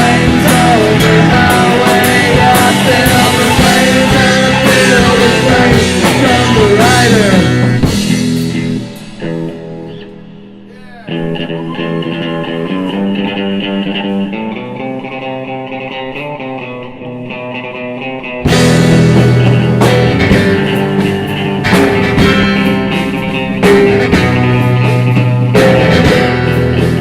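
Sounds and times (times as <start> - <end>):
electric guitar sustained notes: 0.0 - 27.0
rock band music: 0.0 - 27.0.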